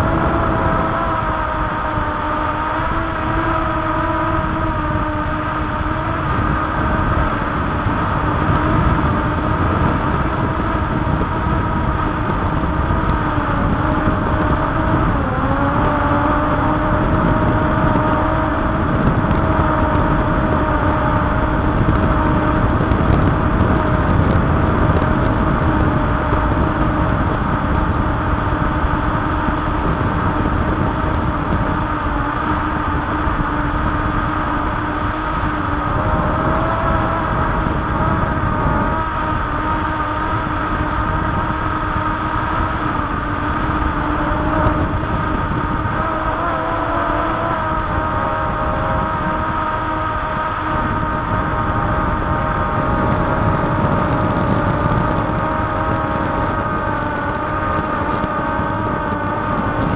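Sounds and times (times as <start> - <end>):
drone propellers whining: 0.0 - 59.9
low rumbling noise: 0.0 - 59.9.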